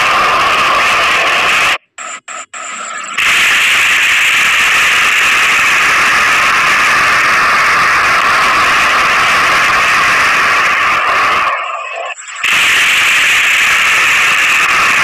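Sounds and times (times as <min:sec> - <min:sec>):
loud steady hiss: 0:00.0 - 0:02.6, 0:03.2 - 0:15.0.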